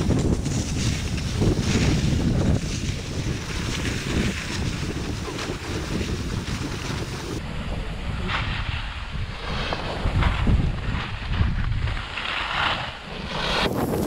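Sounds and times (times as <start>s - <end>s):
skis scraping on snow: 0.0s - 7.4s, 8.2s - 14.0s
wind buffeting microphone: 0.0s - 14.0s.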